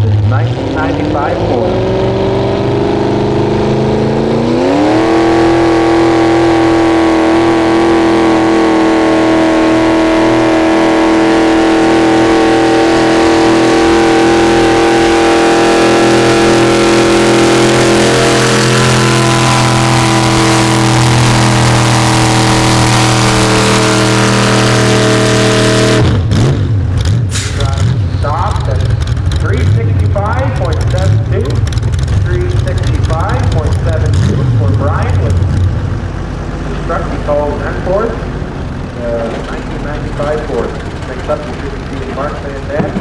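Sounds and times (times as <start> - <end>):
pickup engine revving under load: 0.0 - 43.0.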